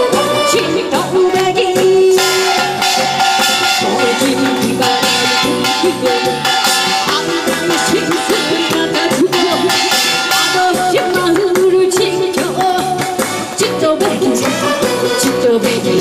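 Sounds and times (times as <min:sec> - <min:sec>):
upbeat trot music with singing: 0:00.0 - 0:03.0, 0:03.6 - 0:16.0
steady percussion beat: 0:01.0 - 0:16.0.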